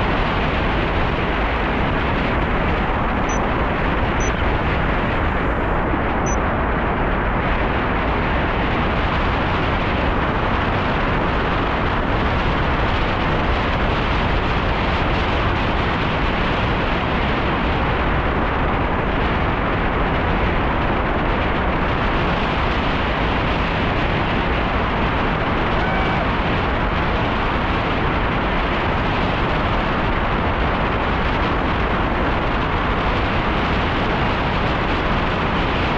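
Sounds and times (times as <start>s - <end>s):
wind blasting microphone: 0.0s - 35.9s.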